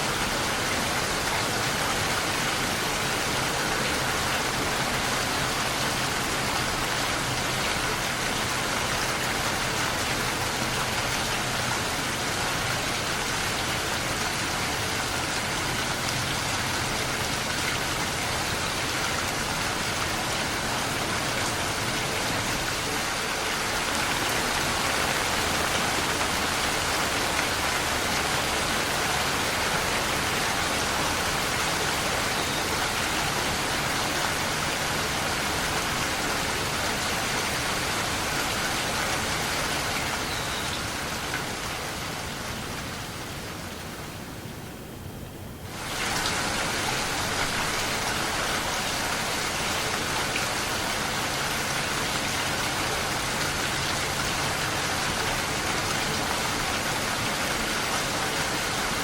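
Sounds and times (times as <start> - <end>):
rain pattering on surfaces: 0.0 - 44.4, 45.7 - 59.0.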